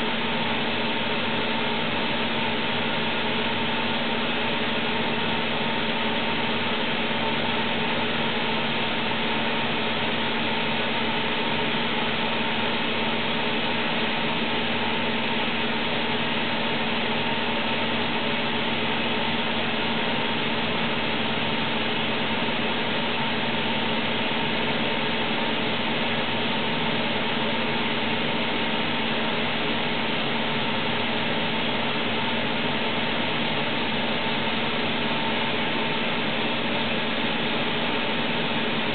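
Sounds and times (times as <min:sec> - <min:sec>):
lathe running with hum: 0:00.0 - 0:38.9.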